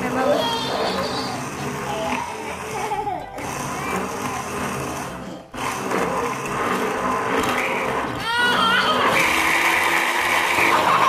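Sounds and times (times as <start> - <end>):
immersion blender motor running: 0.0 - 11.0.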